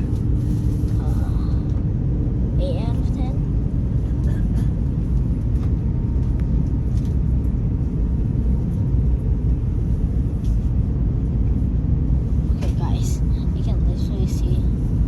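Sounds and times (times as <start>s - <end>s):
airliner engines and airflow rumble: 0.0s - 15.0s.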